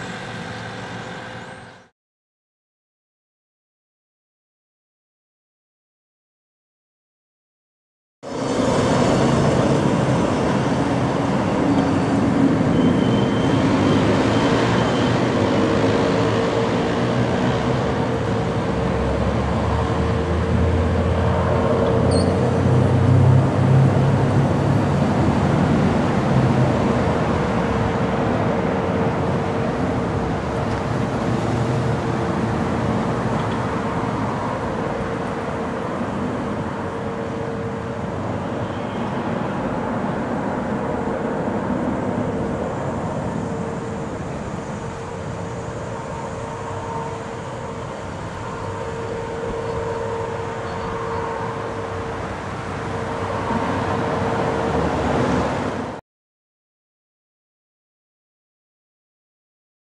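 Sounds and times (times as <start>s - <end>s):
outdoor vehicle traffic: 0.0s - 1.9s, 8.2s - 56.0s
vehicle engine: 0.0s - 1.9s, 8.2s - 56.0s.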